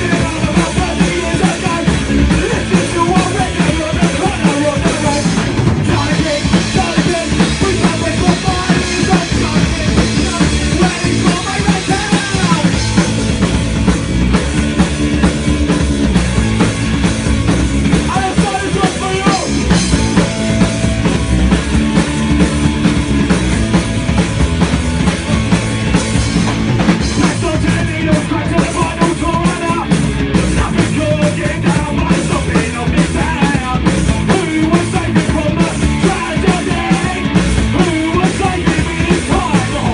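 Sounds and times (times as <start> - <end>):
drum kit: 0.0 - 39.9
rock band playing punk: 0.0 - 39.9.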